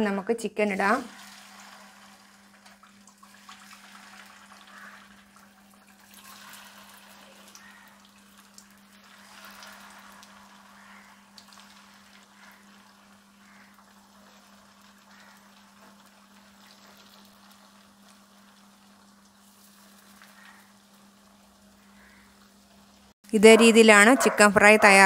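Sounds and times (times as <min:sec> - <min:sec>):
chicken sizzling in oil: 0:00.8 - 0:23.2.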